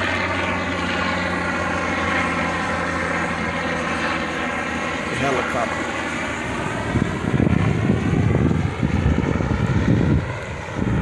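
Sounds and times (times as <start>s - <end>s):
helicopter drone: 0.0s - 11.0s
wind buffeting microphone: 0.0s - 11.0s.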